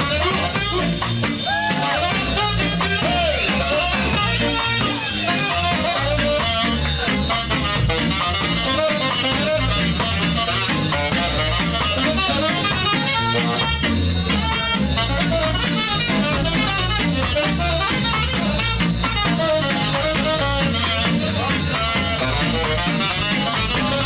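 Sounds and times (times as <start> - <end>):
ska band playing live: 0.0 - 24.0.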